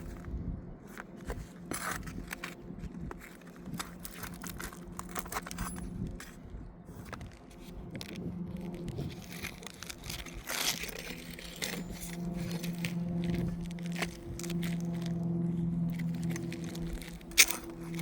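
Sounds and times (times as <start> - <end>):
steady low hum: 0.0 - 18.0
shingles scraping and crackling: 0.9 - 18.0.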